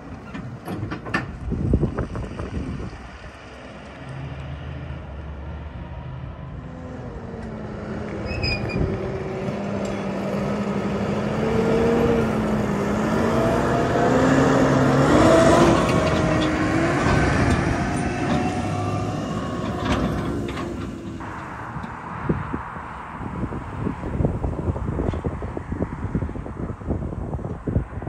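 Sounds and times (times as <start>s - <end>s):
tractor engine passing: 0.0s - 27.8s.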